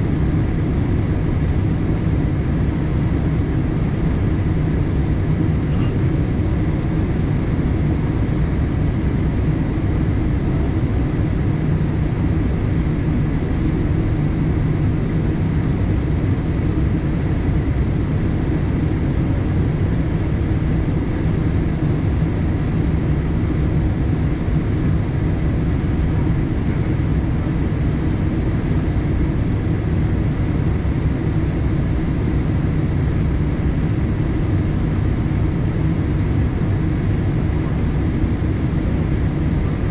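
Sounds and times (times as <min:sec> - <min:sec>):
aircraft cabin engine roar: 0:00.0 - 0:39.9.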